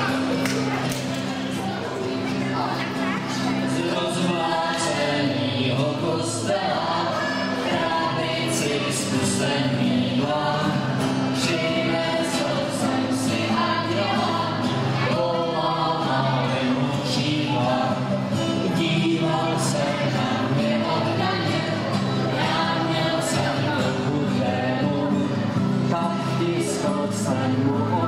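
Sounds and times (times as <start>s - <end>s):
strummed acoustic guitar: 0.0s - 28.0s
mixed choir singing: 1.5s - 28.0s.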